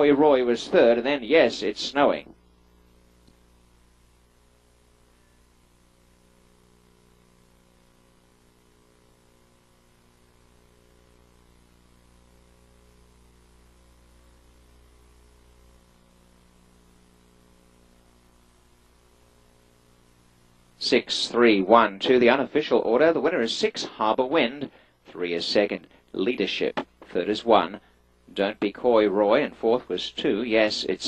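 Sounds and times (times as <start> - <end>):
faint hiss: 0.0 - 31.0
low electrical mains hum: 0.0 - 31.0.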